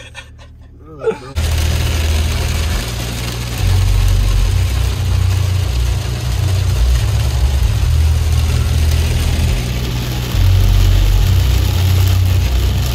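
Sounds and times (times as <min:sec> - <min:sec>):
engine and road drone: 0:00.0 - 0:12.9
rain on windscreen: 0:01.3 - 0:12.9
wet tyres hissing: 0:01.3 - 0:12.9.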